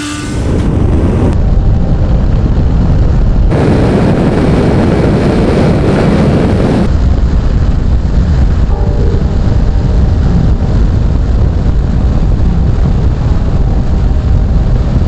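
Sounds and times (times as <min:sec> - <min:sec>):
wind buffeting microphone: 0:00.3 - 0:15.0.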